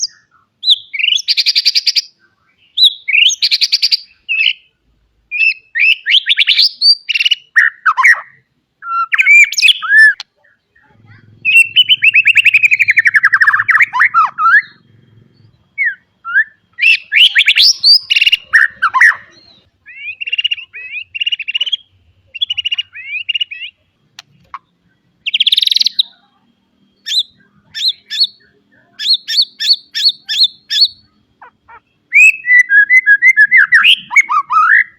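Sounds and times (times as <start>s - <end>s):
songbird singing whistles and chirps: 0.0s - 34.9s.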